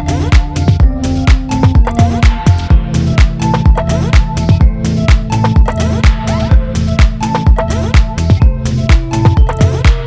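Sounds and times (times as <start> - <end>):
electronic dance music: 0.0 - 10.0
steady kick drum: 0.0 - 10.0
synth notes: 0.0 - 10.0.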